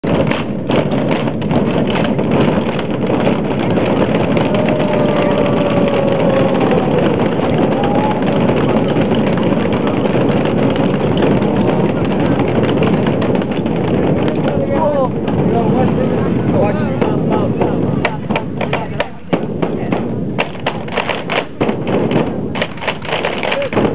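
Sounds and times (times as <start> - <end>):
giant drum rolling rumble: 0.0 - 23.9.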